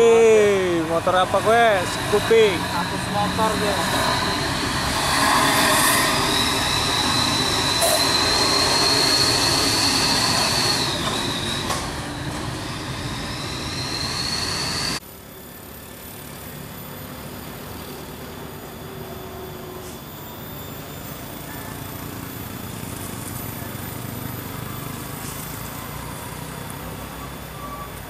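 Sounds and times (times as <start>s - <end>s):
truck brakes squealing: 0.0s - 15.0s, 17.8s - 28.0s
heavy traffic passing: 0.0s - 28.0s
truck engine hum: 0.0s - 28.0s.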